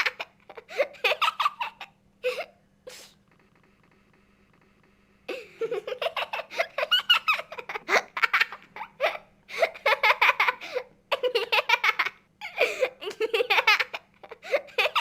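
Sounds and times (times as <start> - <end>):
little girl laughing: 0.0 - 2.6, 5.3 - 15.0.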